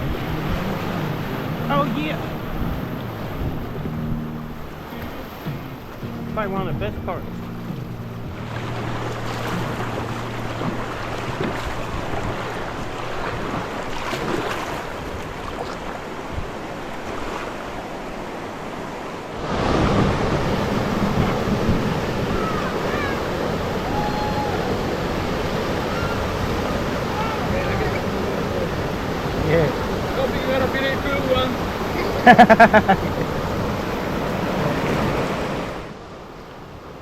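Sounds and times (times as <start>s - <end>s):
wind buffeting microphone: 0.0s - 18.6s, 19.4s - 35.9s
river rushing through rapids: 0.0s - 37.0s.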